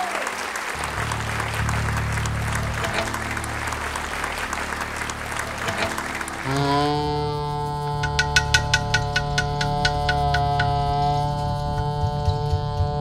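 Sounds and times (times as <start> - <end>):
audience applauding: 0.0 - 11.0
instrument chord: 0.8 - 12.1
low sustained instrument note: 0.8 - 13.0.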